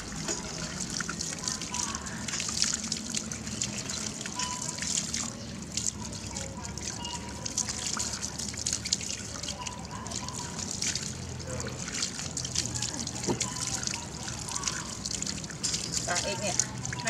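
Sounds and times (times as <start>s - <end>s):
hose water splashing: 0.0s - 17.0s
water dripping and trickling: 0.0s - 17.0s.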